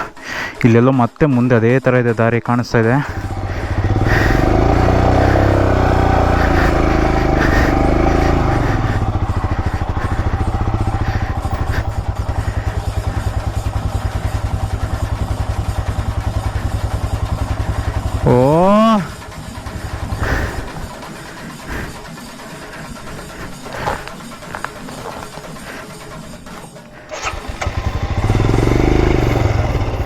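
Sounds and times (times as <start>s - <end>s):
motorcycle engine revving and idling: 2.7s - 30.0s.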